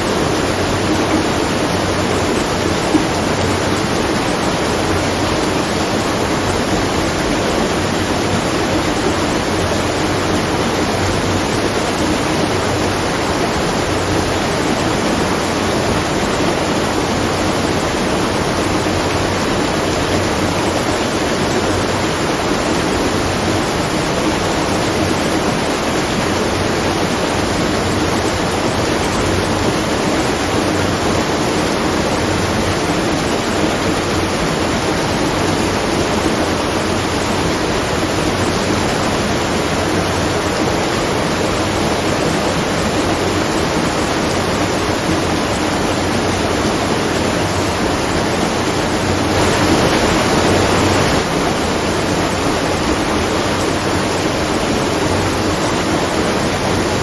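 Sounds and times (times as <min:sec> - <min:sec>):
water rushing and splashing: 0:00.0 - 0:57.0.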